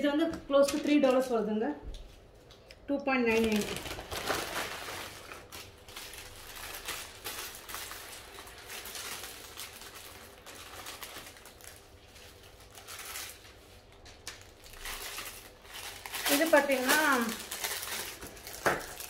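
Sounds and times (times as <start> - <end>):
packaging crinkling and rustling: 3.3 - 19.0.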